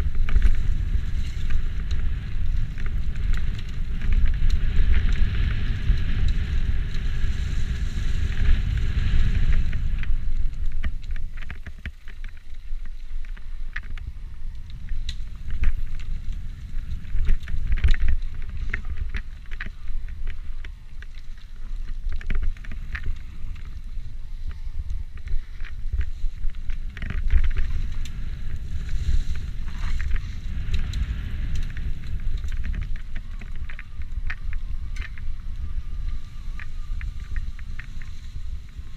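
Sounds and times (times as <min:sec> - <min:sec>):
bike clicking and rattling: 0:00.0 - 0:38.9
wind buffeting microphone: 0:00.0 - 0:38.9.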